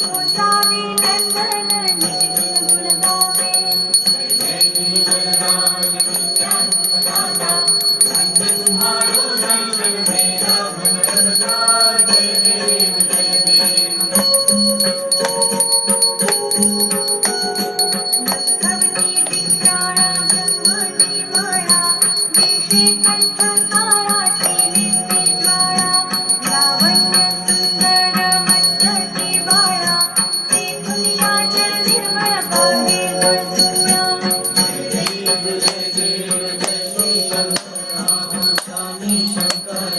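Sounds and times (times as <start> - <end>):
bells ringing: 0.0 - 39.9
devotional music: 0.0 - 39.9.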